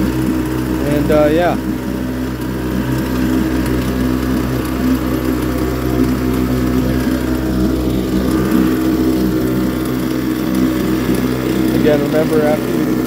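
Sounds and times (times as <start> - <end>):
outboard motor running: 0.0 - 13.0
propeller churning water: 0.0 - 13.0.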